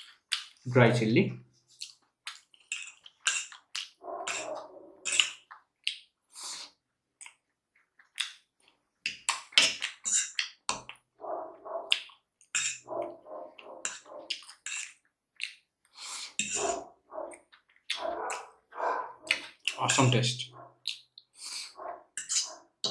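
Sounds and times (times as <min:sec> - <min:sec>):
chewing and slurping noodles: 0:00.0 - 0:00.6, 0:01.6 - 0:19.8, 0:20.6 - 0:22.9.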